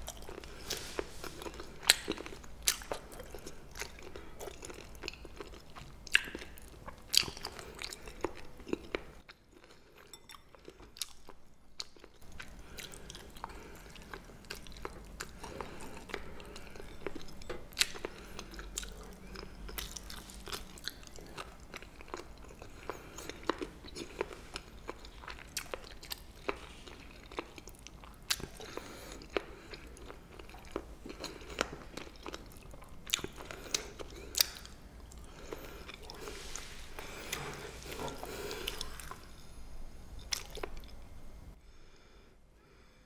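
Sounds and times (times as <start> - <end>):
crunchy chewing: 0.0 - 39.5, 40.2 - 41.1.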